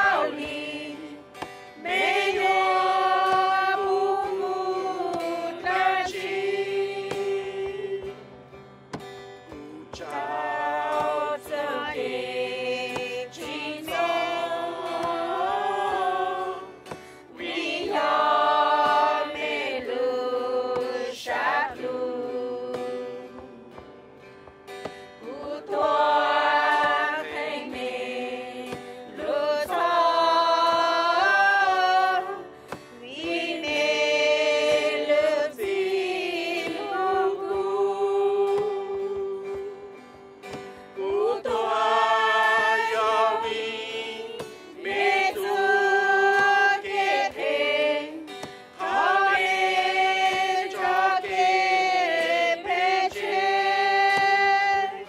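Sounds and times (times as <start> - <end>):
people singing a worship song: 0.0 - 55.0.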